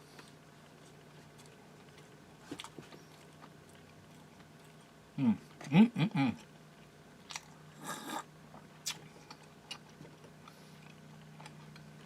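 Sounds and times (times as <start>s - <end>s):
man eating and drinking: 0.0s - 12.0s.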